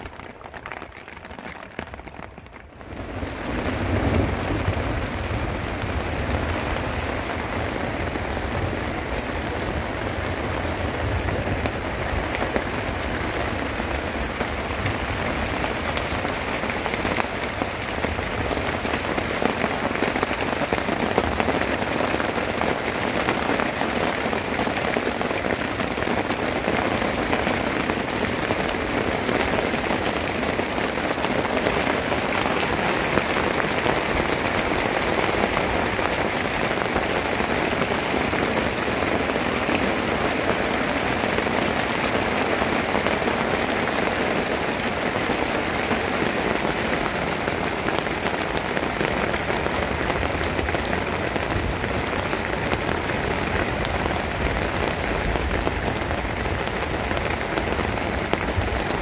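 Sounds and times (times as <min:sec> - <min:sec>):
heavy rain on stony ground: 0:00.0 - 0:59.0.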